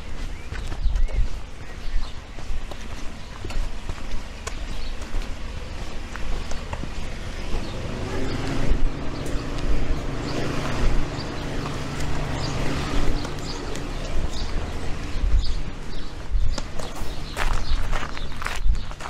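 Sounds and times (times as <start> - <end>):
motor engine humming: 0.0 - 17.9
footsteps on pavement: 0.0 - 19.0.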